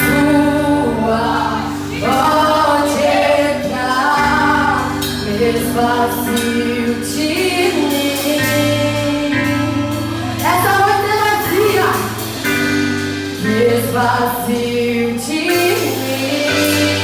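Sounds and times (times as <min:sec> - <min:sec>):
gospel singing: 0:00.0 - 0:17.0
keyboard and bass: 0:00.0 - 0:17.0.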